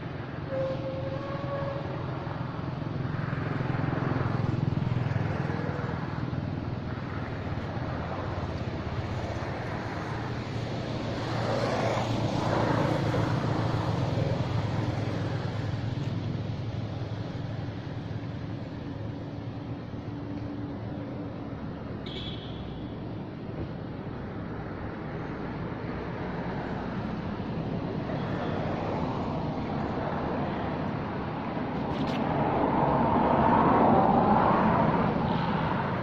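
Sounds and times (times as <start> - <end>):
passing road vehicles: 0.0 - 36.0.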